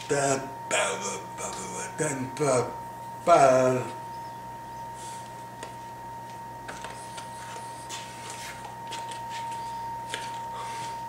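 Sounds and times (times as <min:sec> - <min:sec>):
high-pitched whine: 0:00.0 - 0:11.0
low hum: 0:00.0 - 0:11.0.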